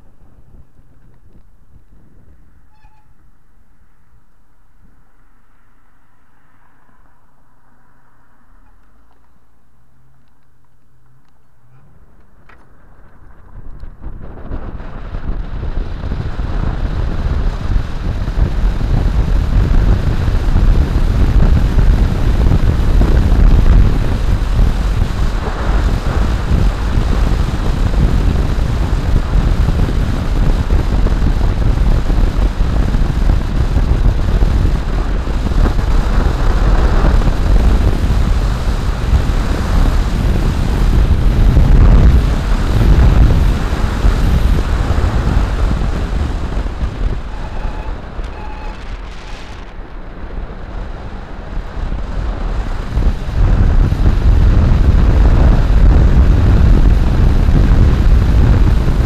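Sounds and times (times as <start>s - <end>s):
wind buffeting microphone: 0.0s - 3.4s, 11.1s - 59.0s.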